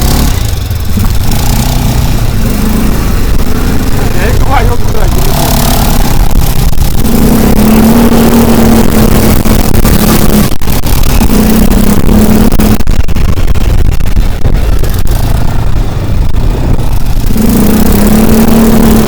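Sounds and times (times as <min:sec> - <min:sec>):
road and wind rumble: 0:00.0 - 0:19.0
vehicle engine: 0:00.0 - 0:19.0.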